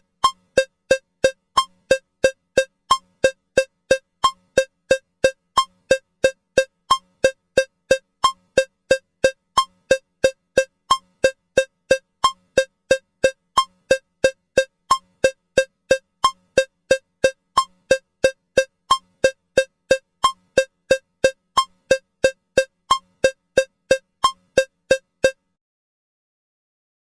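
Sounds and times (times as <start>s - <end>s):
metronome cowbell clicks: 0.0s - 25.4s.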